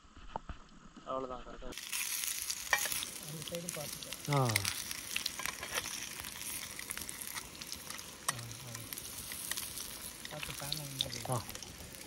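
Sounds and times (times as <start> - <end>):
food sizzling over a campfire: 1.6 - 12.0.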